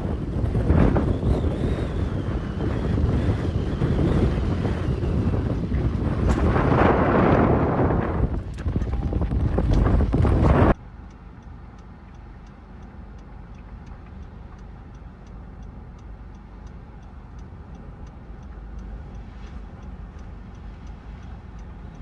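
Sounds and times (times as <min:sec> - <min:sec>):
light regular ticking: 0:00.0 - 0:22.0
vehicle engine rumble: 0:00.0 - 0:22.0.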